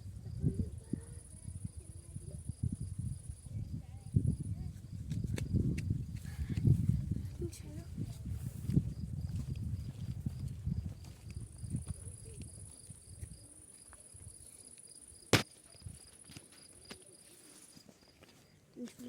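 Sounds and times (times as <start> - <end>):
insect chirping: 0.0 - 7.1, 8.7 - 18.6.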